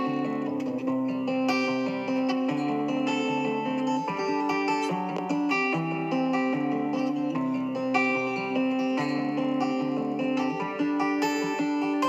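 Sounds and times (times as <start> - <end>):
gentle guitar music: 0.0 - 12.0.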